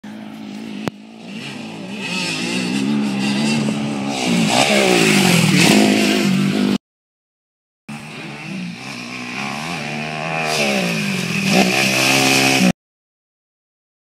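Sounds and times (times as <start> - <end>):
dirt bike engine revving: 0.1 - 6.8, 7.9 - 12.8.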